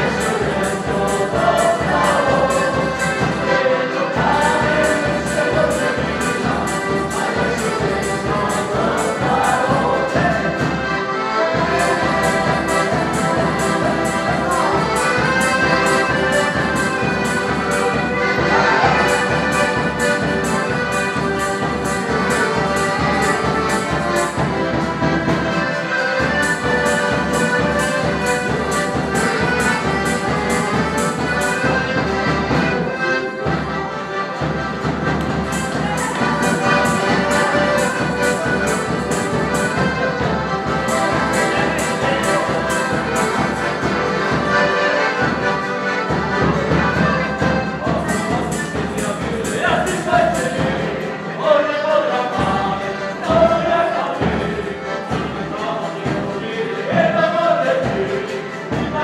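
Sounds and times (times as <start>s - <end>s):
accordion: 0.0s - 59.0s
folk dance band playing: 0.0s - 59.0s.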